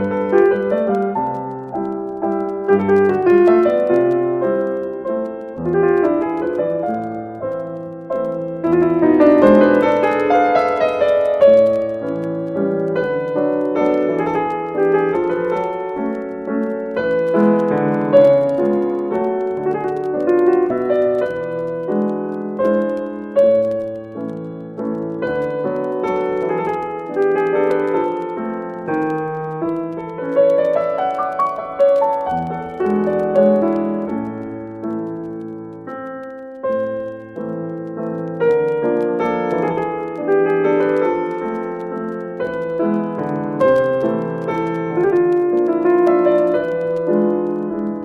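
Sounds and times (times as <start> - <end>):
slow piano music: 0.0 - 48.0.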